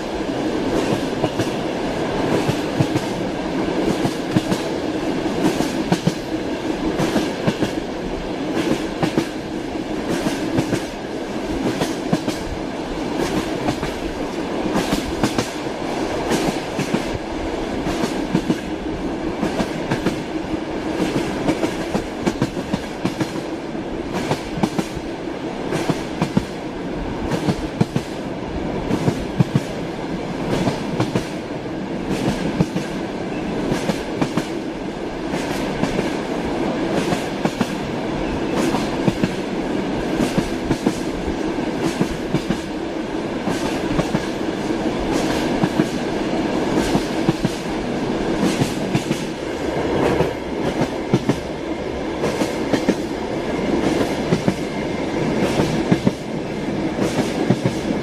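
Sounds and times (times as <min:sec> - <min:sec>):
train wheels clattering on rails: 0:00.0 - 0:26.6, 0:27.2 - 0:28.2, 0:28.8 - 0:58.0.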